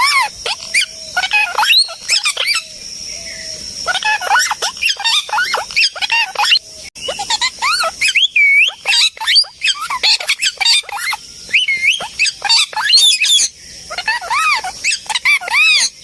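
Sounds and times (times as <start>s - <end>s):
parrots squawking and chattering: 0.0s - 16.0s.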